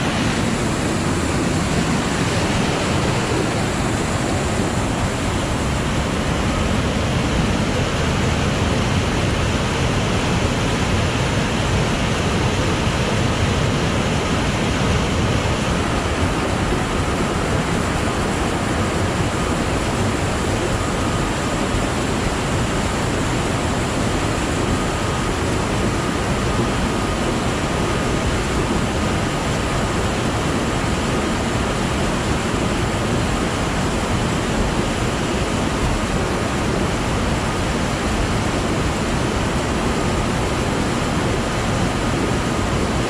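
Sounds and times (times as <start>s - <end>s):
fast-flowing water rushing: 0.0s - 43.0s.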